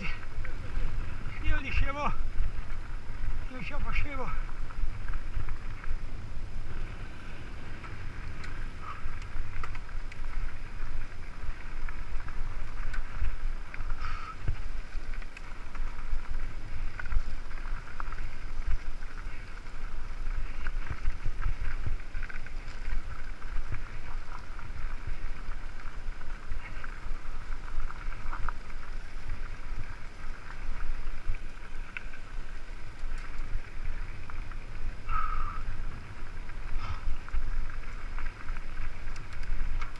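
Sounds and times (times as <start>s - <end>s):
mountain bike rumbling and rattling: 0.0s - 39.9s
wind buffeting microphone: 0.0s - 39.9s.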